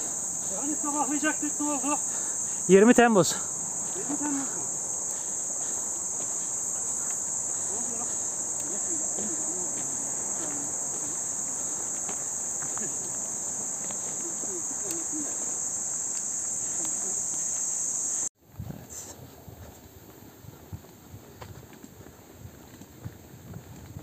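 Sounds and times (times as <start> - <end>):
faint footsteps on dirt: 0.0 - 18.3, 19.2 - 24.0
high-pitched insect chorus: 0.0 - 20.6.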